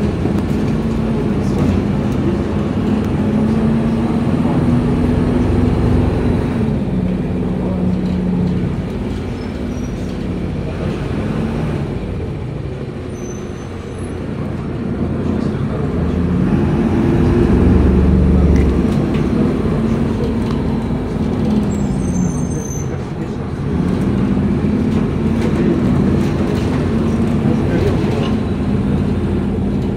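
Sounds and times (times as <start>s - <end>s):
bus engine running: 0.0s - 29.9s
road noise: 0.0s - 29.9s.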